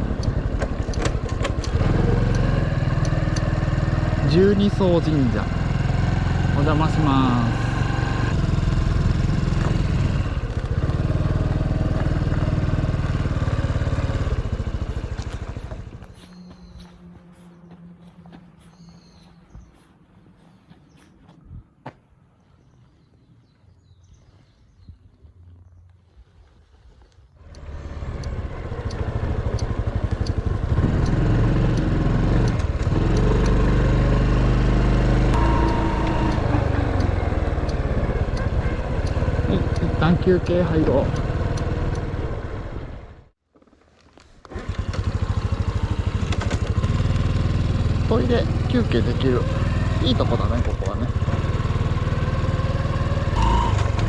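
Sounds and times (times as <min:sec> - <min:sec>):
motorcycle engine puttering: 0:00.0 - 0:19.3, 0:27.4 - 0:54.0.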